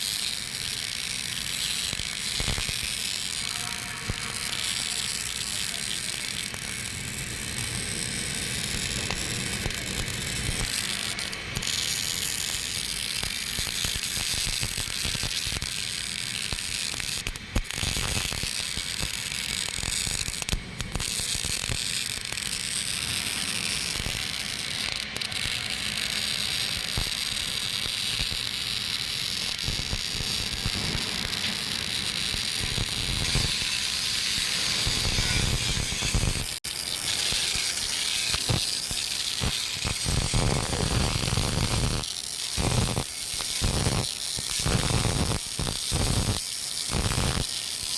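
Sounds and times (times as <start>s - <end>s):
welding arc crackling: 0.0s - 47.9s.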